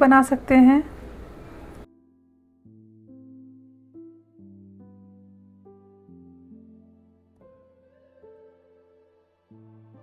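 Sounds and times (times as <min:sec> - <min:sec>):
soft instrumental background music: 0:01.6 - 0:10.0.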